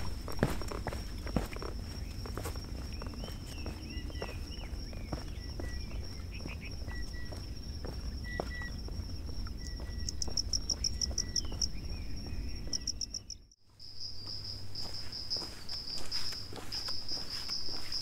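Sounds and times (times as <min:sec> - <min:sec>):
insects trilling: 0:00.0 - 0:18.0
rapid pulsed insect chirps: 0:00.0 - 0:18.0.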